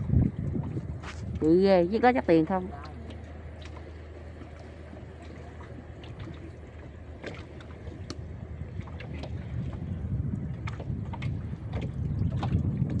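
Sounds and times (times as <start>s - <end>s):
boat engine drone: 0.0s - 13.0s
river water washing: 0.0s - 13.0s
wind: 0.0s - 13.0s.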